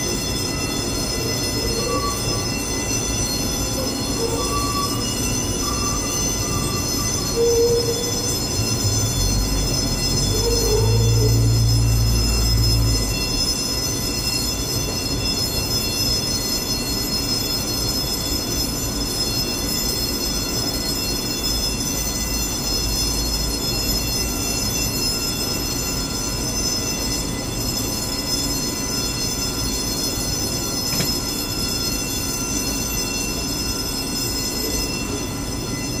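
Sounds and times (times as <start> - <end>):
jet turbine whine: 0.0 - 36.0.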